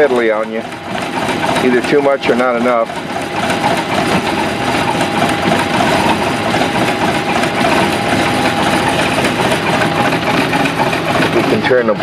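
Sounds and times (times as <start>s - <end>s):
bilge blower running: 0.0s - 12.0s
boat engine idling: 0.0s - 12.0s
steady whine: 0.0s - 12.0s.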